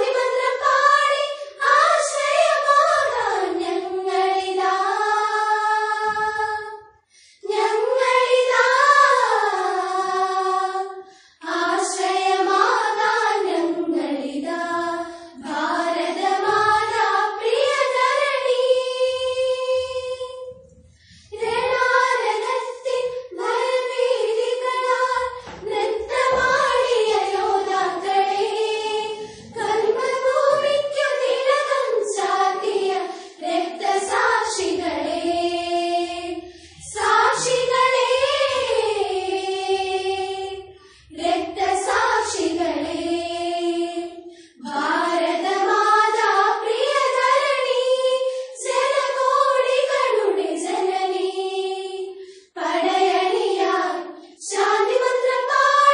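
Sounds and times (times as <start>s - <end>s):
girls singing together: 0.0s - 55.9s.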